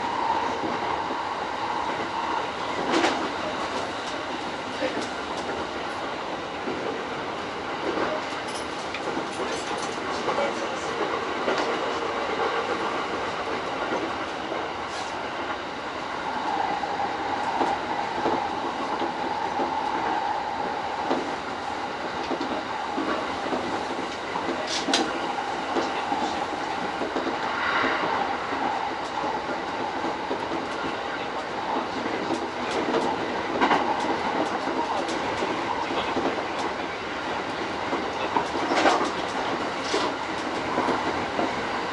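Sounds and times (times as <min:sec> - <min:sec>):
train rumble: 0:00.0 - 0:41.9.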